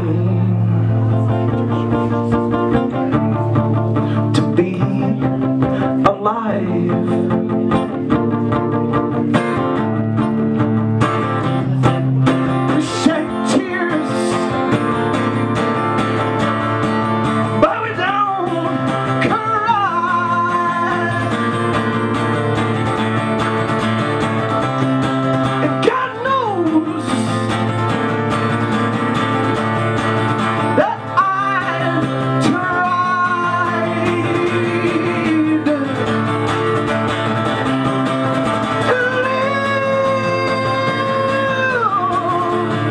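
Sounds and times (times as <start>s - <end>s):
man singing: 0.0s - 9.0s, 11.6s - 24.6s, 25.3s - 42.9s
acoustic guitar strumming: 0.0s - 42.9s.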